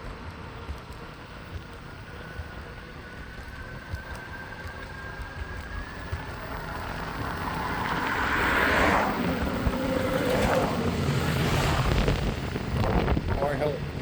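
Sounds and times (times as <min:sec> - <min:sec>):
high motor whine: 0:00.0 - 0:14.0
wheels rumbling on pavement: 0:00.0 - 0:14.0.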